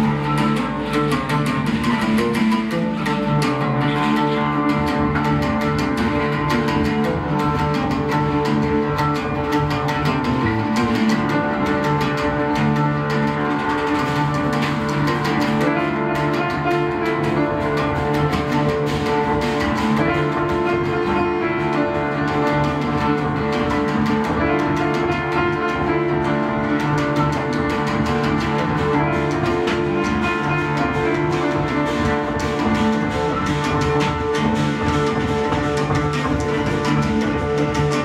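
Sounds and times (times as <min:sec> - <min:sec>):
oud plucked fast: 0:00.0 - 0:38.0.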